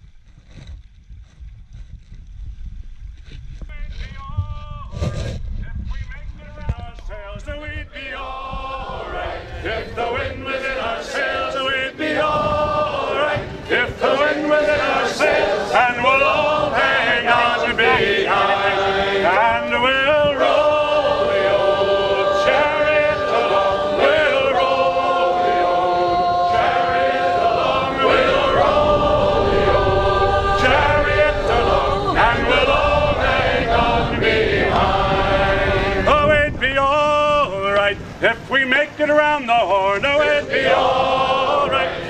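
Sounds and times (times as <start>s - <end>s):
male chorus singing a sea shanty: 6.8s - 42.0s.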